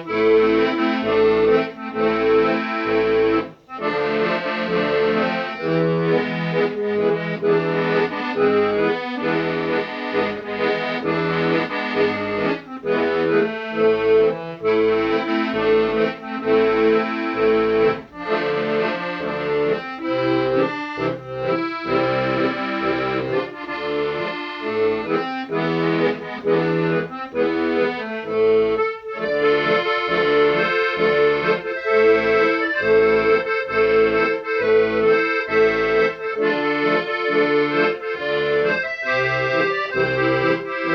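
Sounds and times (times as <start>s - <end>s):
accordion music: 0.0s - 40.9s.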